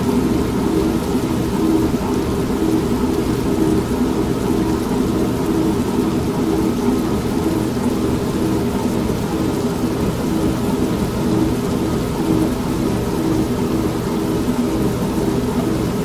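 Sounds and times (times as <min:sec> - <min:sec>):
washing machine rumbling: 0:00.0 - 0:16.0.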